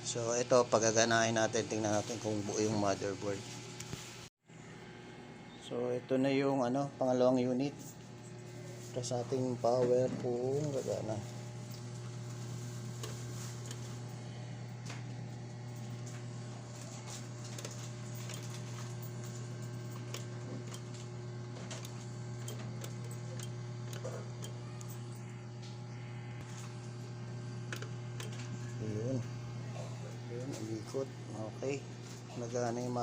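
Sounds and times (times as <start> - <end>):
computer fans humming: 5.2 - 33.0.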